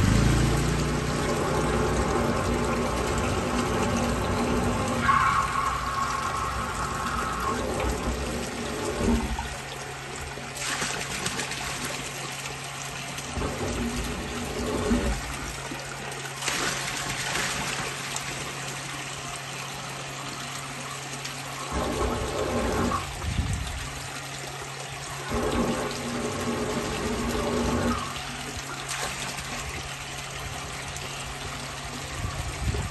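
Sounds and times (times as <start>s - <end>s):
water gushing from drain pipe: 0.0s - 32.9s.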